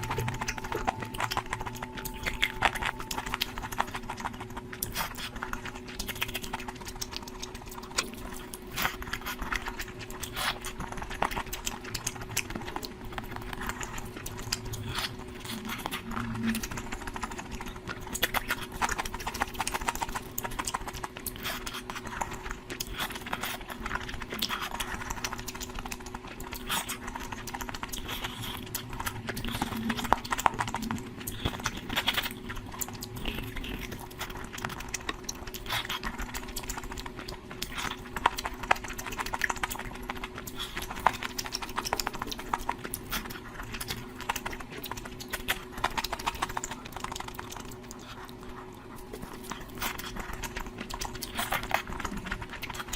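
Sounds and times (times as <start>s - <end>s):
faint steady hum: 0.0s - 52.9s
person chewing food: 0.0s - 52.9s.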